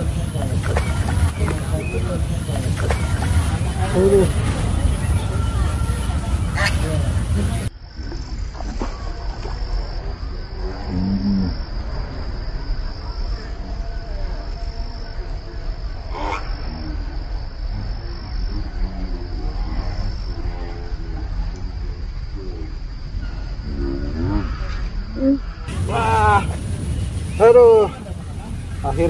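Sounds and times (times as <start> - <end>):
insect chirring: 0.0 - 29.0
low microphone rumble: 0.0 - 29.0.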